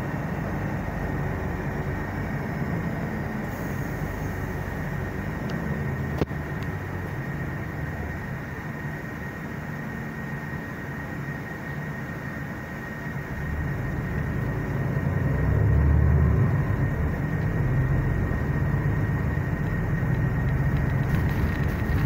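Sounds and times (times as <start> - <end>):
bus engine and running gear drone: 0.0 - 22.0.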